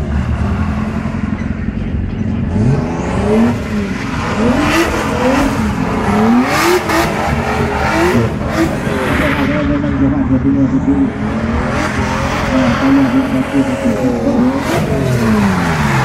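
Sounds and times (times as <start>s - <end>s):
car engine revving hard: 2.4s - 16.0s.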